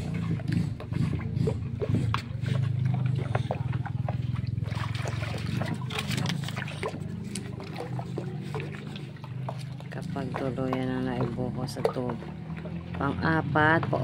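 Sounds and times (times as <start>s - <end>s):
liquid trickling into bucket: 0.0s - 13.8s
paddle stirring liquid: 0.0s - 14.0s.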